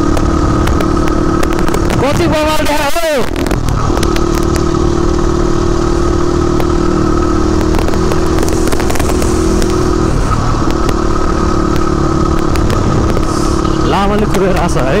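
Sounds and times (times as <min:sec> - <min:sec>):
rushing wind noise: 0:00.0 - 0:06.2, 0:06.8 - 0:15.0
motorcycle engine running: 0:00.0 - 0:15.0.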